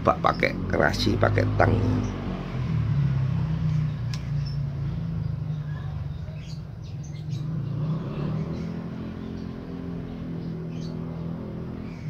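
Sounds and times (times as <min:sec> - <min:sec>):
steady low engine hum: 0:00.0 - 0:12.0.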